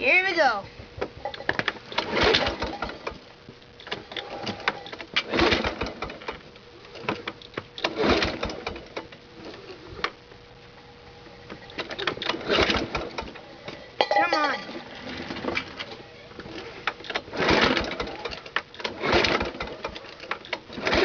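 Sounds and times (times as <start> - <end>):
lawn mower engine cranking: 1.2 - 3.2, 3.8 - 10.1, 11.5 - 21.0.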